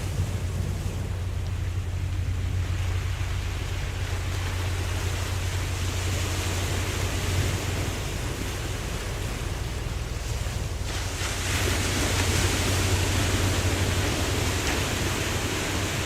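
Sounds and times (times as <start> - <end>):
low rumble: 0.0 - 16.0
ocean waves washing: 0.0 - 16.0.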